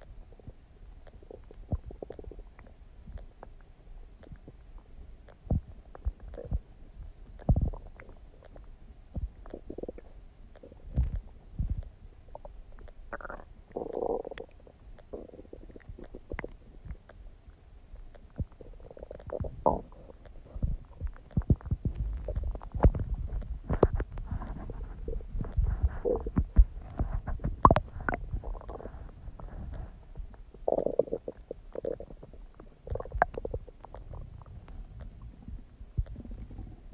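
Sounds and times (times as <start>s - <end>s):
stomach gurgling and rumbling: 0.0s - 36.9s.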